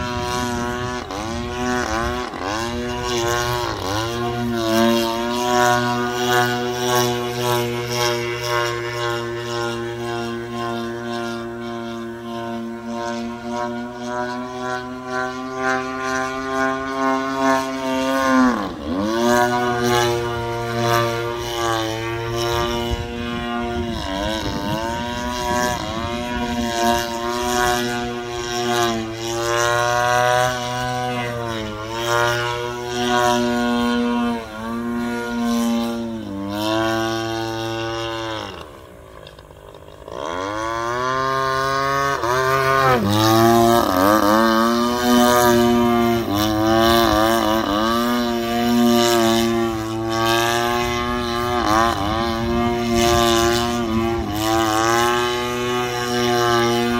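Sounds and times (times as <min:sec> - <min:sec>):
model aircraft engine drone: 0:00.0 - 0:56.9.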